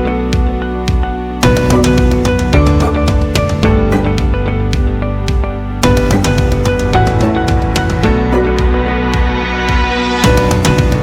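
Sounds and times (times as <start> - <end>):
deep bass: 0.0 - 11.0
light percussion beat: 0.4 - 11.0.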